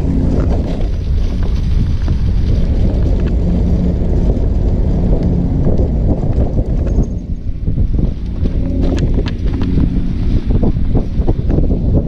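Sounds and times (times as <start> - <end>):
trike engine rumbling: 0.0 - 12.0
wind buffeting microphone: 0.0 - 12.0.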